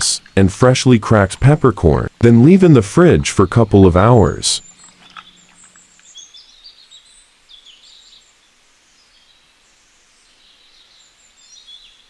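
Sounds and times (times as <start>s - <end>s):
birds chirping: 0.0s - 12.0s
faint hiss: 0.0s - 12.0s.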